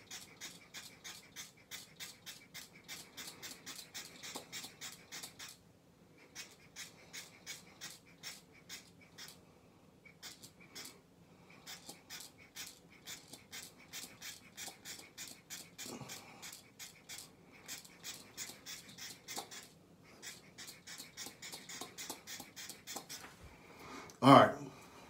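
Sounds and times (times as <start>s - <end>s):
brush scratching on beard: 0.0s - 5.6s, 6.2s - 9.4s, 10.2s - 23.4s.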